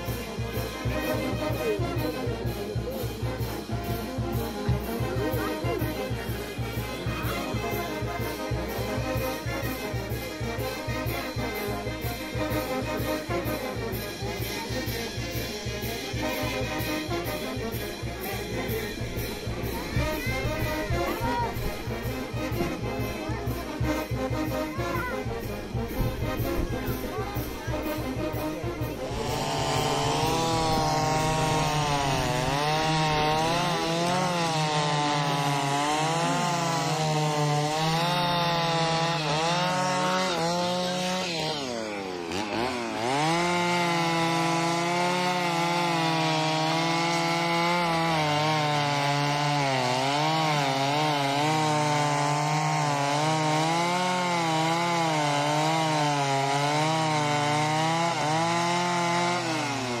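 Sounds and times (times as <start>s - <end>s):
chainsaw running at high revs: 0.0s - 60.0s.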